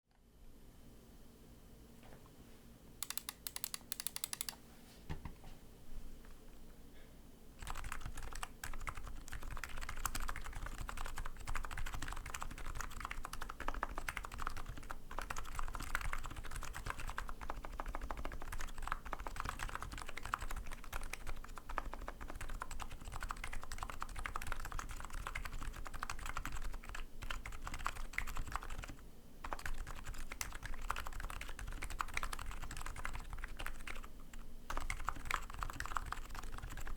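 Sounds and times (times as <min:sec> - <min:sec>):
fast keyboard typing: 0:03.0 - 0:04.6, 0:07.6 - 0:36.9.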